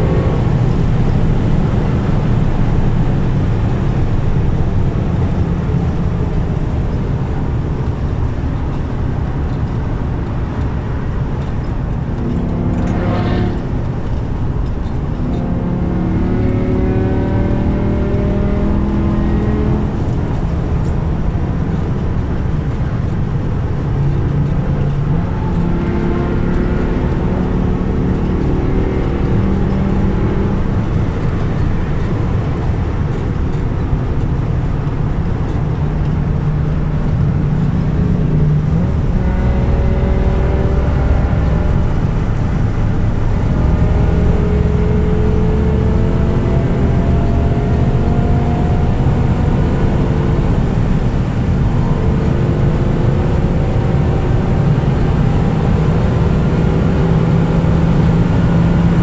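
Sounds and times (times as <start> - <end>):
car engine from inside cabin: 0.0 - 59.0
road and wind noise: 0.0 - 59.0.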